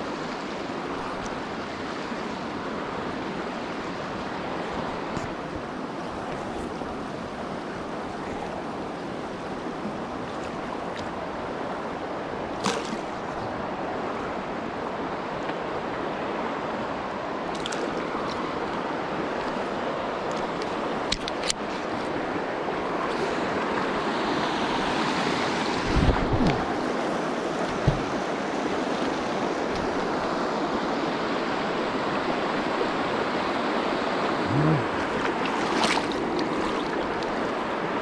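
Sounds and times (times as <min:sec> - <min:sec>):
river rushing over rocks: 0:00.0 - 0:38.0.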